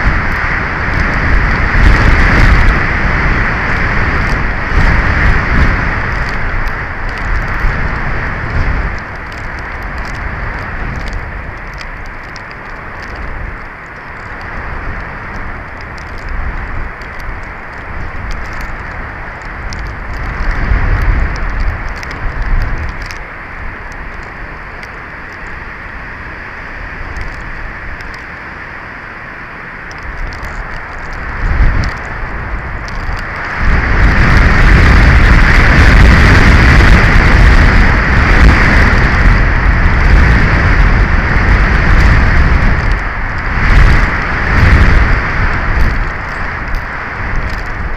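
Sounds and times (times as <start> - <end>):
strong wind buffeting microphone: 0.0 - 47.9
faint ticks: 4.2 - 25.6, 27.1 - 28.3, 29.8 - 37.7, 40.0 - 47.9.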